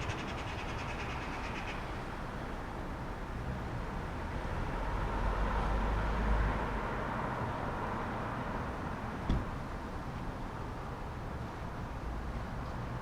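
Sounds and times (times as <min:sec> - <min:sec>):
distant traffic noise: 0:00.0 - 0:13.0
vehicle passing with low rumble: 0:00.0 - 0:13.0.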